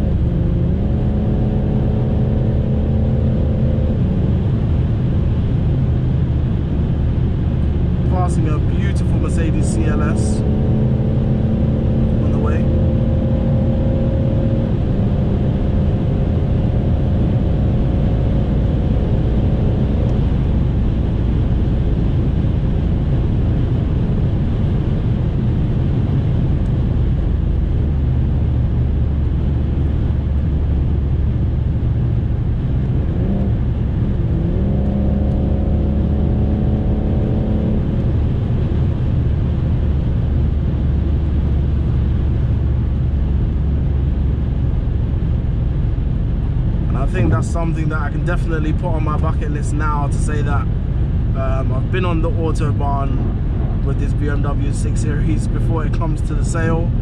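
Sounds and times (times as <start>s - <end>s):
diesel engine drone: 0.0s - 57.0s
road and wind noise: 0.0s - 57.0s.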